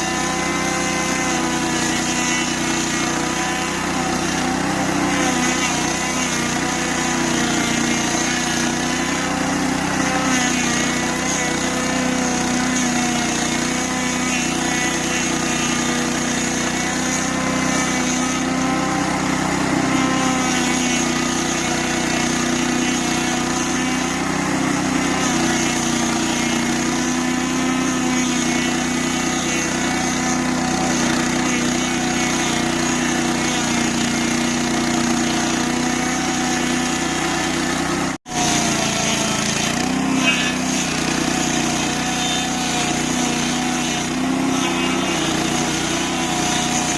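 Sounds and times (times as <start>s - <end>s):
cutter wheel grinding stump: 0.0s - 46.9s
stump grinder engine running: 0.0s - 46.9s.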